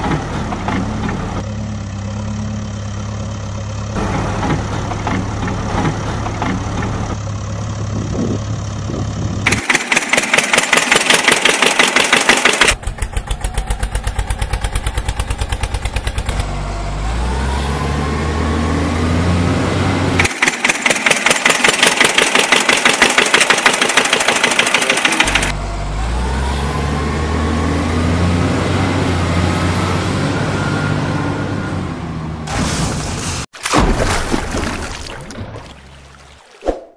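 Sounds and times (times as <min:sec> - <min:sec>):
engine idling chugging and revving: 0:00.0 - 0:31.5.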